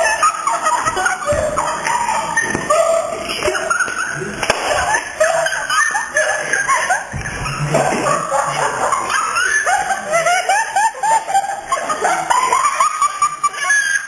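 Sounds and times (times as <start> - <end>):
people's voices: 0.0 - 14.0.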